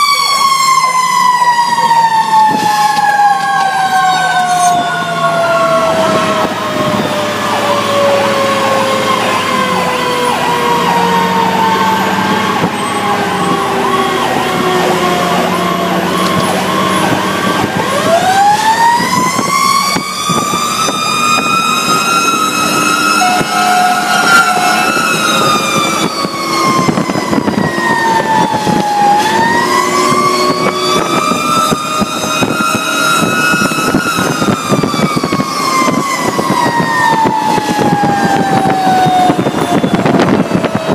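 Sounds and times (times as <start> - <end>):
fast warbling siren tone: 0.0 - 40.9
fire truck siren wailing: 0.0 - 40.9.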